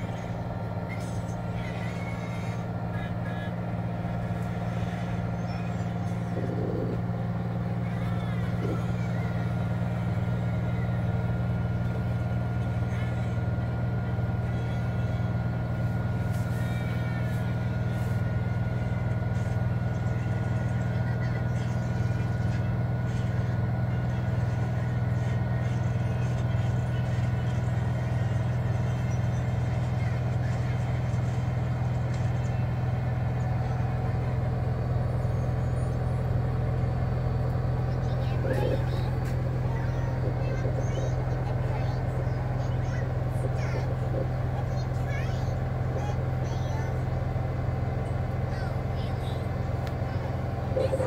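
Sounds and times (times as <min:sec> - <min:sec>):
washing machine motor humming: 0:00.0 - 0:26.0, 0:27.0 - 0:51.0.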